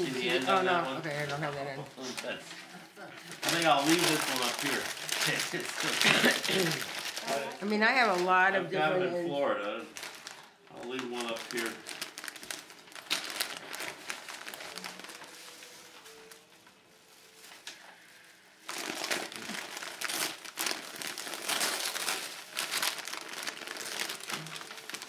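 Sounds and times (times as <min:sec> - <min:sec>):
wrapping paper crinkling: 0:00.0 - 0:02.5, 0:03.1 - 0:08.5, 0:09.8 - 0:25.0.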